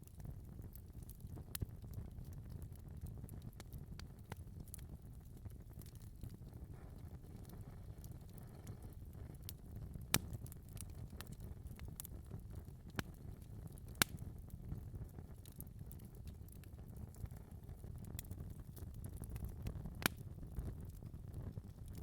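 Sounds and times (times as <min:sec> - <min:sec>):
flames rumbling: 0:00.1 - 0:22.0.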